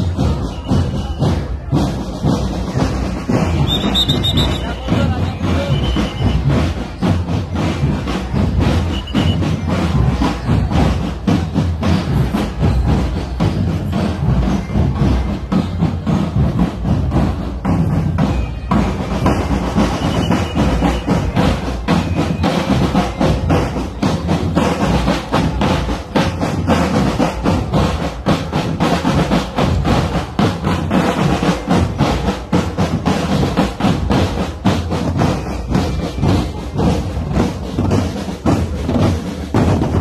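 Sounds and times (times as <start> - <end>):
marching drum band: 0.0 - 40.0.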